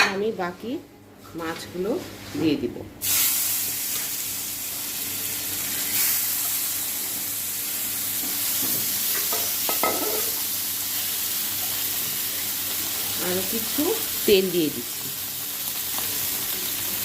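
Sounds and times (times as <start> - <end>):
fish sizzling in hot oil: 3.0 - 17.0.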